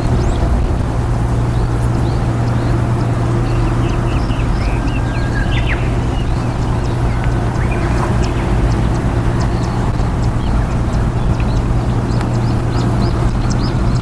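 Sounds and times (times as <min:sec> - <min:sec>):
low mechanical hum: 0:00.0 - 0:14.0
small birds chirping: 0:00.0 - 0:14.0.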